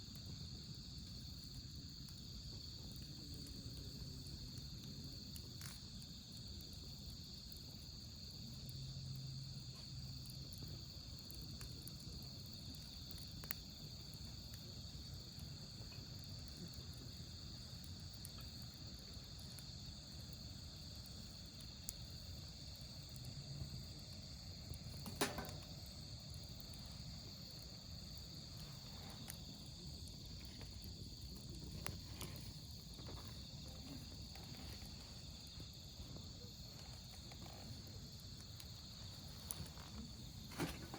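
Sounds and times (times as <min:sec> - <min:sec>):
crickets chirring: 0:00.0 - 0:40.9
wood fire crackling: 0:00.0 - 0:40.9.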